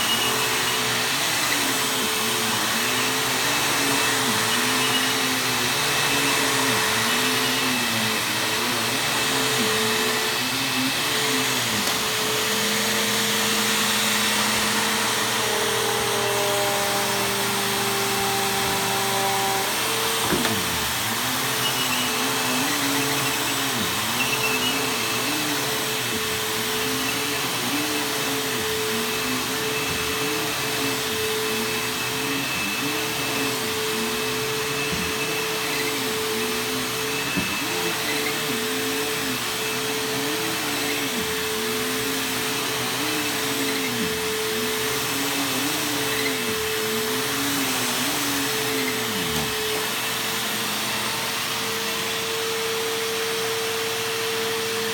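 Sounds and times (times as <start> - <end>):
vacuum cleaner on carpet: 0.0 - 54.9.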